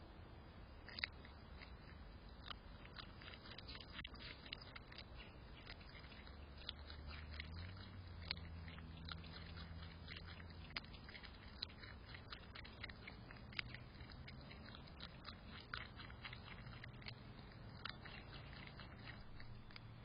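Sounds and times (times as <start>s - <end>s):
animal chewing carrot: 0.8s - 20.0s.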